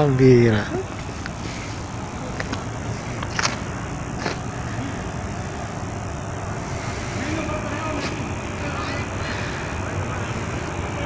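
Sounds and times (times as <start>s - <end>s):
low rumble of moving vehicle: 0.0s - 11.0s.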